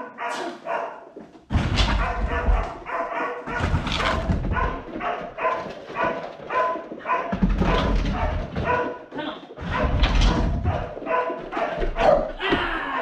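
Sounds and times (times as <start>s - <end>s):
dog barking: 0.0s - 12.4s.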